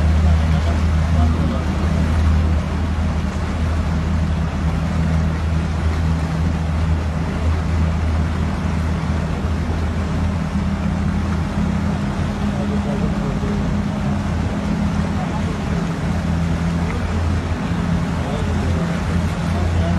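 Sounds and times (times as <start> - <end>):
engine drone: 0.0 - 19.9.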